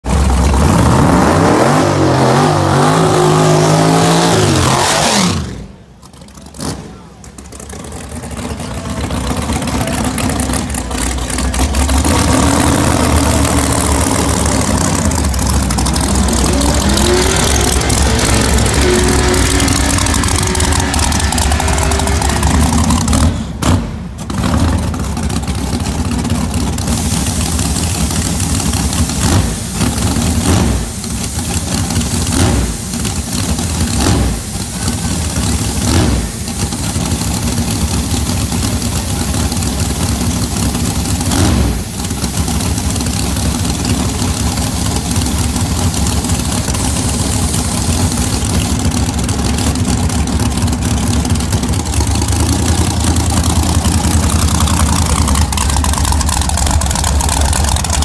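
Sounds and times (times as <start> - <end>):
drag car engine lopey idle: 0.0 - 0.8, 5.4 - 58.0
drag racing car launching: 0.1 - 58.0.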